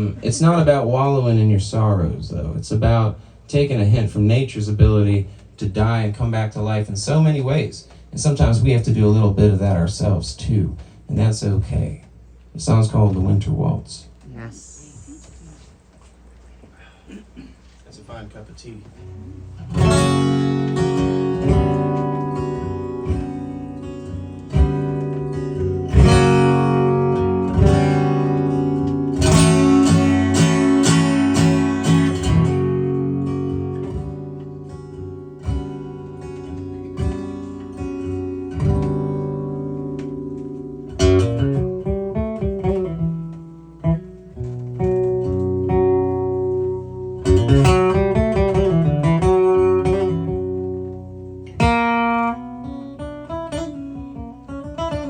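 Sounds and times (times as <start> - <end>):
acoustic guitar playing: 0.0 - 12.0, 18.9 - 55.0.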